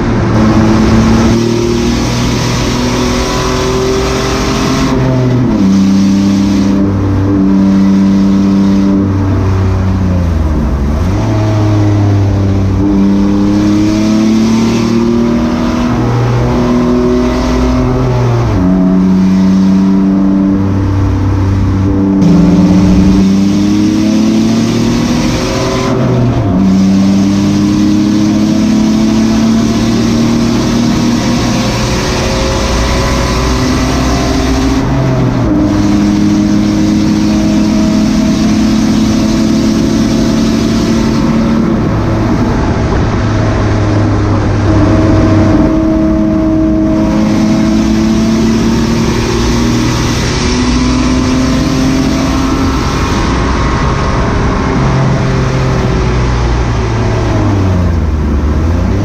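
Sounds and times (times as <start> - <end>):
race car engine accelerating: 0.0 - 59.0
wind and tyre noise: 0.0 - 59.0.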